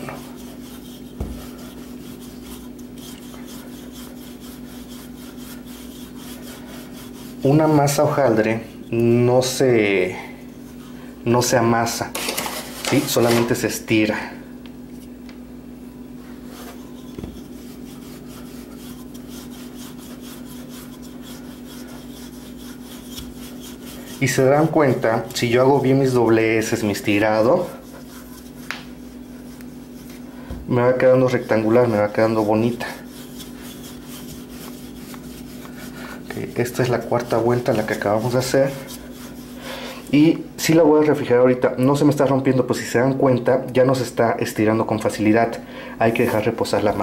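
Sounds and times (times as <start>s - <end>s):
rolling pin rubbing on dough: 0.0s - 14.1s, 16.1s - 43.0s, 46.0s - 47.0s
steady low hum: 0.0s - 47.0s.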